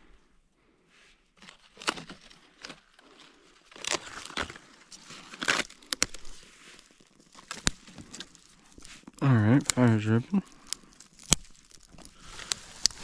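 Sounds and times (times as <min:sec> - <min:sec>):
dry wood crackling and crunching: 0:01.3 - 0:13.0.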